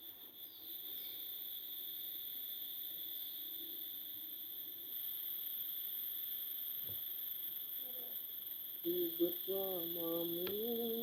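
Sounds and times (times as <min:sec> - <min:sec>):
insect chorus high tones: 0:00.0 - 0:11.0.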